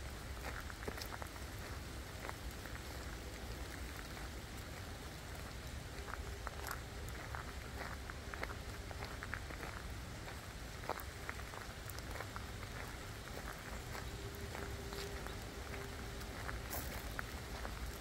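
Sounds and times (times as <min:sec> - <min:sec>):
rain falling in forest: 0:00.0 - 0:18.0.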